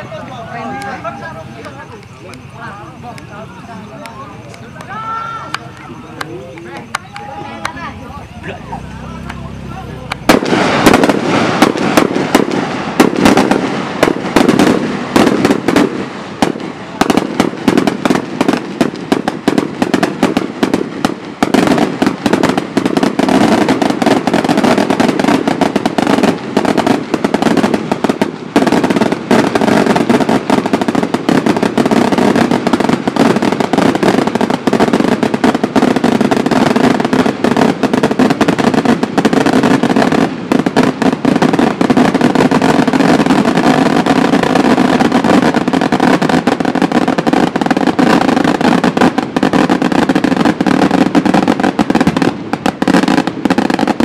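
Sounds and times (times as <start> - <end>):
fireworks crackling bangs: 0.0 - 54.0.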